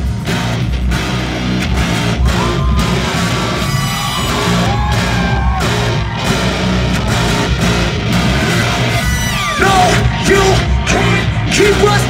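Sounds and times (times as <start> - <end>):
live rock band playing: 0.0 - 12.0
sliding pitched guitar lines: 0.0 - 12.0.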